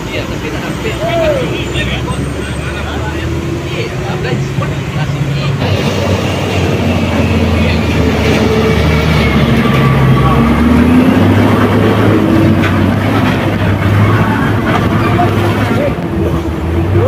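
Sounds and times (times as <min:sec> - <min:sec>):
heavy diesel truck engine: 0:00.0 - 0:17.0.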